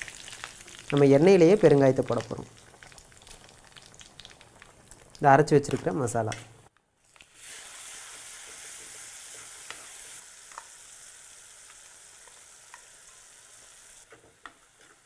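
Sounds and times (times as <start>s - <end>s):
paste sizzling in hot oil: 0.0s - 5.2s, 7.0s - 15.0s.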